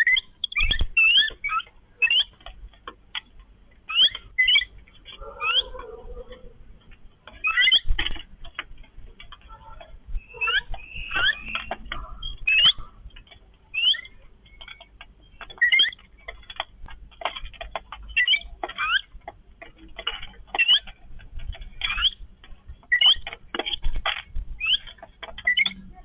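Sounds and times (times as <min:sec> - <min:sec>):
birds chirping squeakily: 0:00.0 - 0:26.0.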